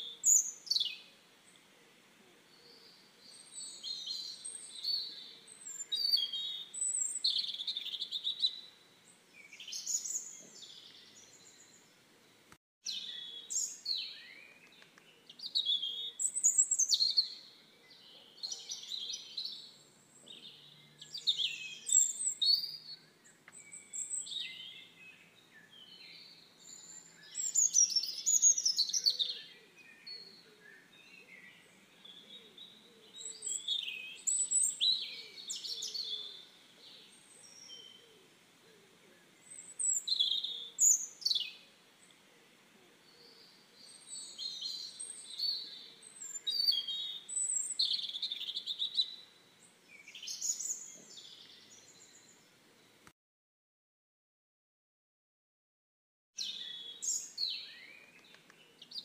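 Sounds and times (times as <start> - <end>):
small birds chirping: 0.0 - 53.1, 56.4 - 59.0.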